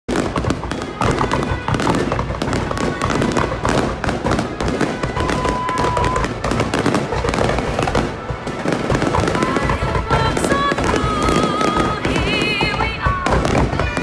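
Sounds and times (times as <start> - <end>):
fireworks bangs and crackles: 0.1 - 14.0.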